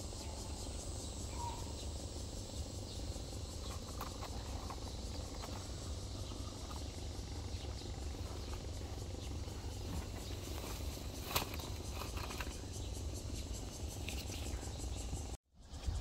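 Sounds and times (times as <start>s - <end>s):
insects chirring: 0.0s - 16.0s
low steady rumble: 0.0s - 16.0s.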